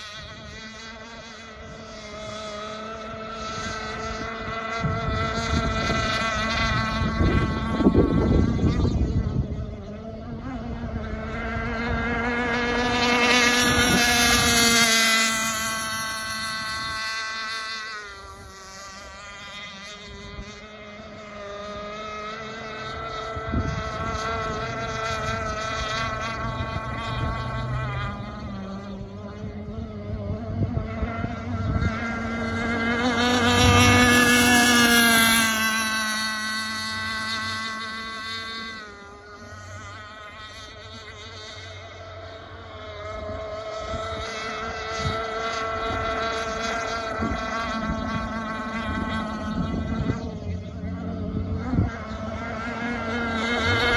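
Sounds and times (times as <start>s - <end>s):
model boat engine whine: 0.0s - 53.9s
wind gust on microphone: 1.4s - 41.8s, 42.6s - 53.9s.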